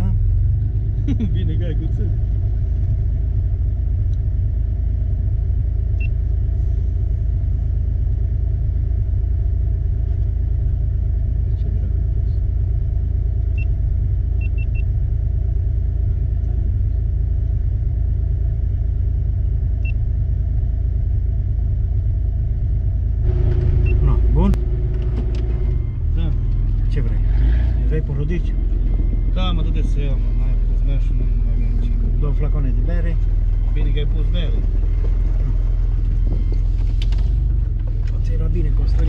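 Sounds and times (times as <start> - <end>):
engine idling heard from inside: 0.0 - 39.0.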